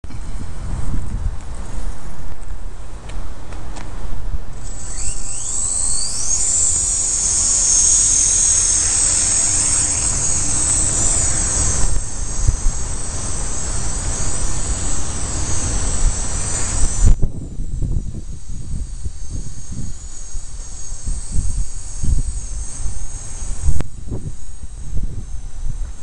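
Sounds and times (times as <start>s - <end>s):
rc helicopter motor whine: 4.5s - 26.0s.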